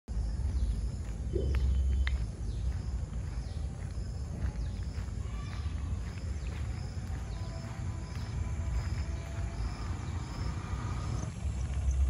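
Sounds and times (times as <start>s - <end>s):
birds calling: 0.1s - 12.0s
wind rumble on microphone: 0.1s - 12.0s.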